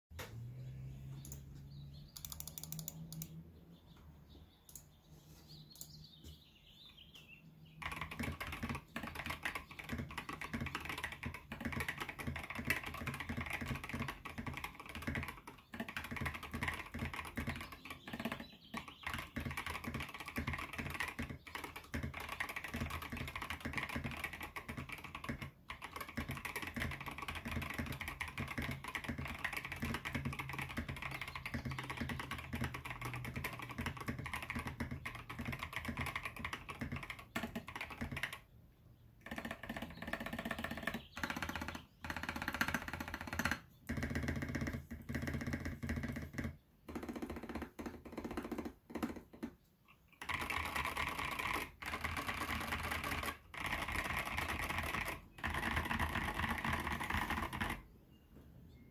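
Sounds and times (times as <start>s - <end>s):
fast typing on mechanical keyboard: 2.0s - 3.4s, 7.6s - 38.5s, 39.2s - 49.5s, 50.1s - 57.9s.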